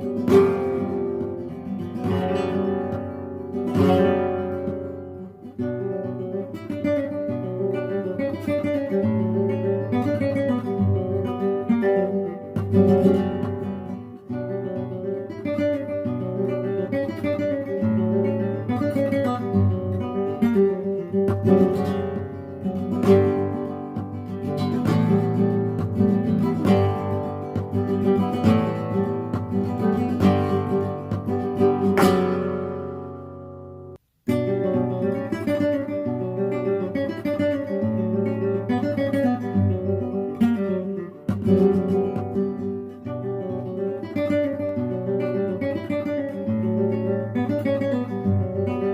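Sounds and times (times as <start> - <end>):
acoustic guitar strumming chords: 0.0 - 48.9.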